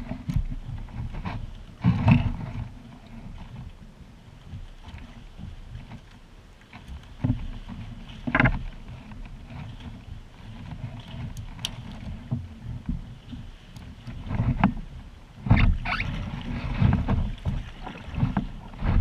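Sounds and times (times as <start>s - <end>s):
water sloshing around kayak: 0.0s - 19.0s.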